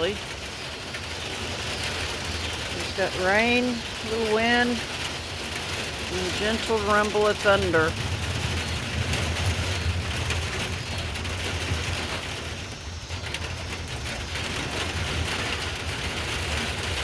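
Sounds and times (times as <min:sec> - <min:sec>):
low thunder rumble: 0:00.0 - 0:17.0
steady rain falling: 0:00.0 - 0:17.0
wind: 0:00.0 - 0:17.0.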